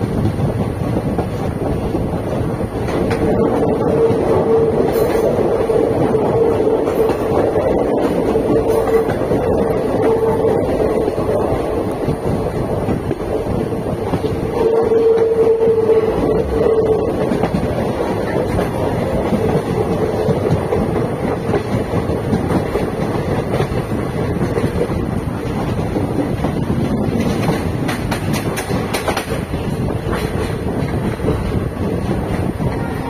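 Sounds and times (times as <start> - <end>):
clickety-clack over rail joints: 0.0 - 33.0
train wheels rumbling on rails: 0.0 - 33.0.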